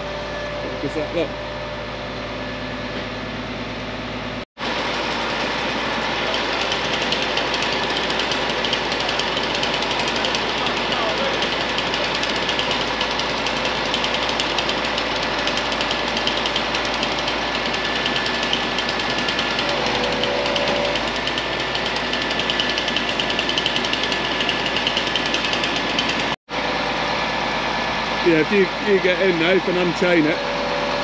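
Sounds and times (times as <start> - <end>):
diesel engine running with clatter: 0.0 - 31.0.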